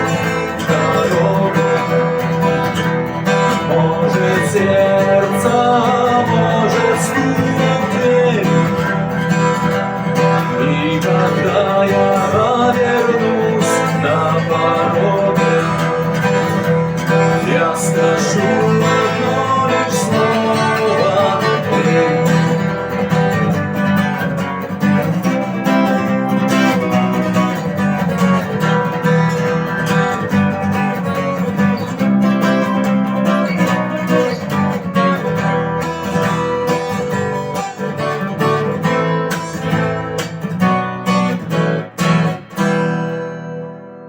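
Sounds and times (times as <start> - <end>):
acoustic guitar strumming chords: 0.0 - 44.0.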